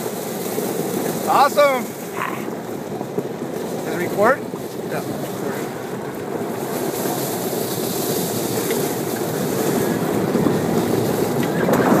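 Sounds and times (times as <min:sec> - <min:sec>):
cart rattling: 0:00.0 - 0:12.0
tyres on loose gravel: 0:00.0 - 0:12.0.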